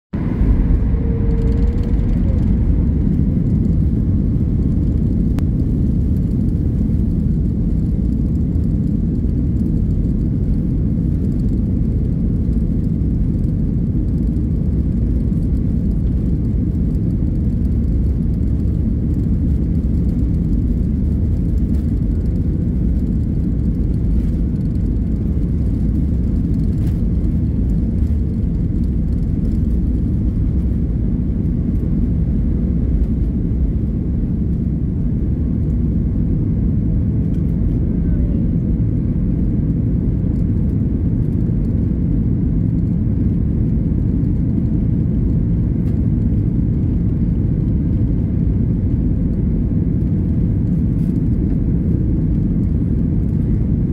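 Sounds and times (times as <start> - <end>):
jet engines low rumble: 0.1 - 53.9.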